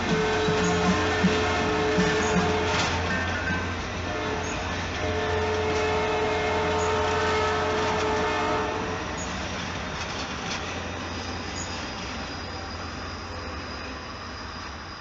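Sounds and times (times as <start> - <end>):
train cars rumbling past: 0.0 - 15.0.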